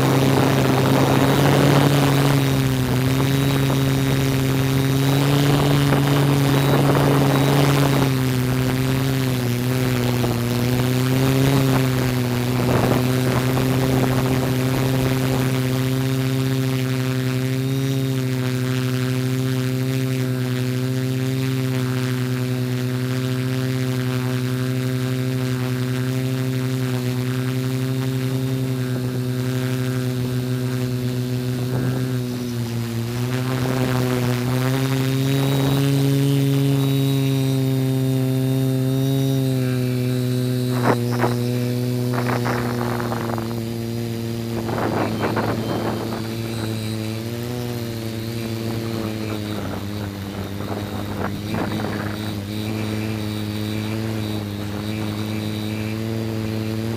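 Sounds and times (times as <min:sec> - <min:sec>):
drone propellers humming: 0:00.0 - 0:56.9.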